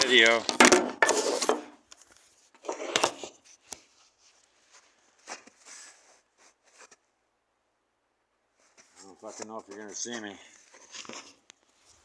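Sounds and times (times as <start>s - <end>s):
faint knocks and scrapes: 0.0s - 7.1s, 8.6s - 12.0s.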